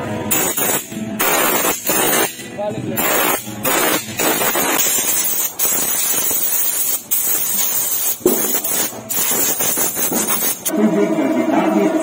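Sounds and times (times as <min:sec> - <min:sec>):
air blow gun hissing: 0:00.3 - 0:02.4, 0:03.0 - 0:10.7.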